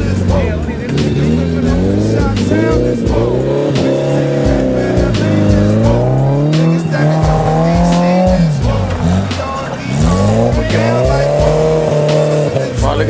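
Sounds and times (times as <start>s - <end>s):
sliding bass line: 0.0s - 13.0s
steady drum beat: 0.0s - 13.0s.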